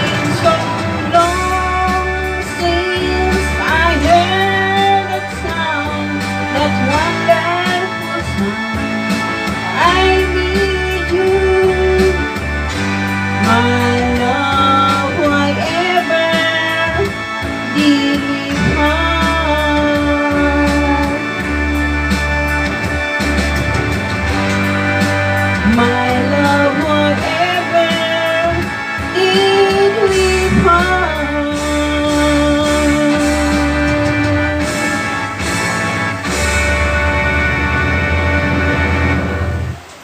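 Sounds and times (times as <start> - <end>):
slow instrumental love song: 0.0 - 40.0.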